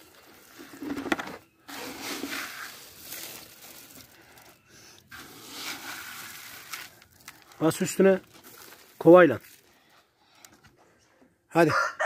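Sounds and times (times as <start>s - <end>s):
grain rustling in plastic bucket: 0.0s - 9.9s.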